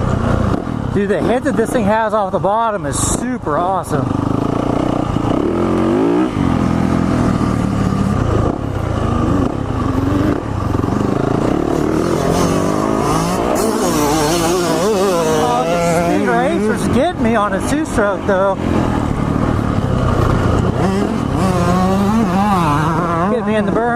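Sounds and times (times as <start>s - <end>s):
motocross bike engine revving: 0.0s - 23.9s.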